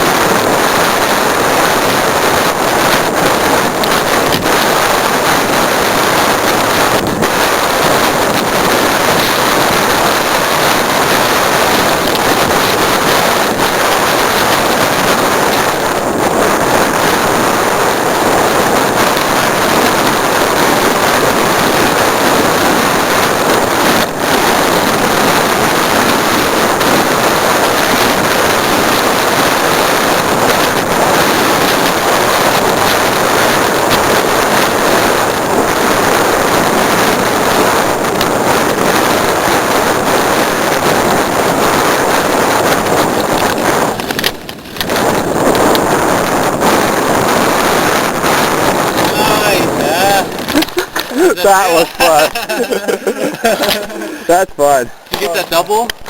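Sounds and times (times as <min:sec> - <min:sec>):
bike rolling over trail: 0:00.0 - 0:54.2
wind rushing on microphone: 0:00.0 - 0:56.0.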